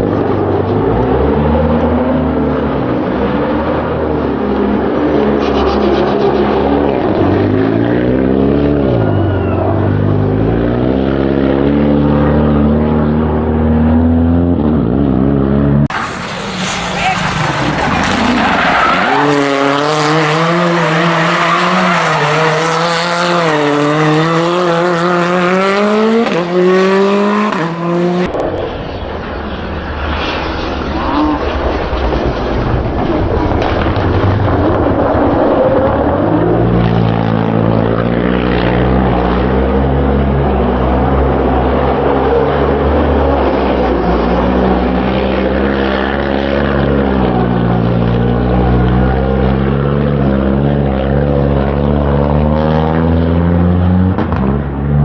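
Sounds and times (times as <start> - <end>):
low engine drone: 0.0 - 55.0
rally car engine revving: 0.0 - 55.0.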